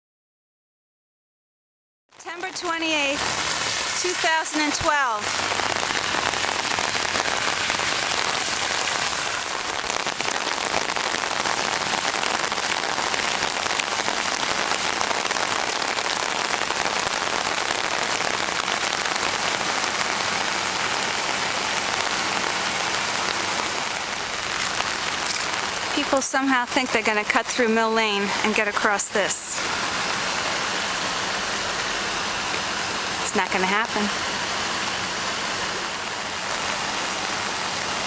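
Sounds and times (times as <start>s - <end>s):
heavy rain on pavement: 2.1s - 38.0s.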